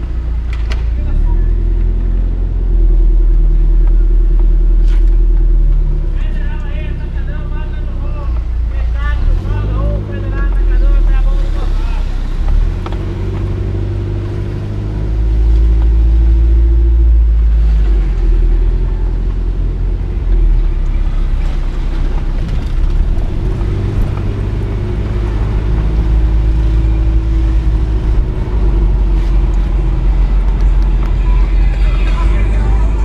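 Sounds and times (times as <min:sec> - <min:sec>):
car engine running: 0:00.0 - 0:33.0
road and wind rumble: 0:00.0 - 0:33.0.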